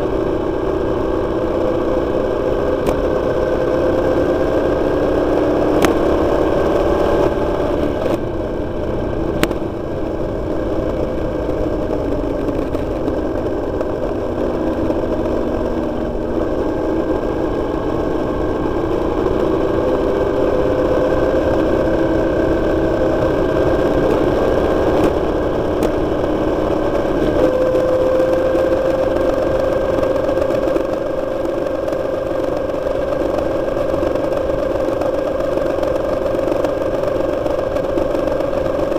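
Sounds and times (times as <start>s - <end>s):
motorcycle engine revving: 0.0s - 38.9s
road and wind noise: 0.0s - 38.9s.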